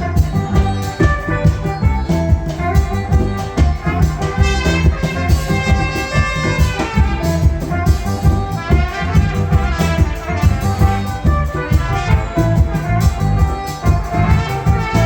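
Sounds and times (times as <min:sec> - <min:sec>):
deep bass line: 0:00.0 - 0:15.0
live band playing: 0:00.0 - 0:15.0
steady drum beat: 0:00.0 - 0:15.0.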